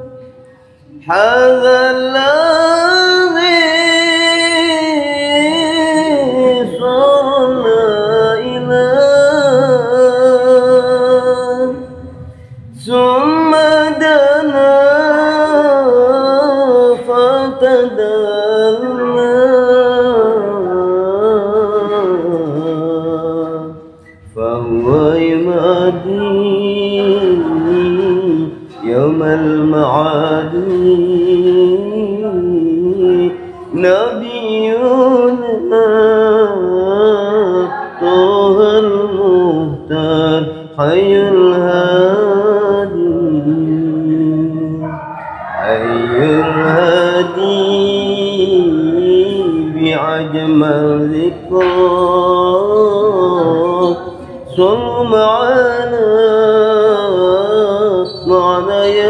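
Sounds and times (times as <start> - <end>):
person singing devotional song: 0.0 - 59.0.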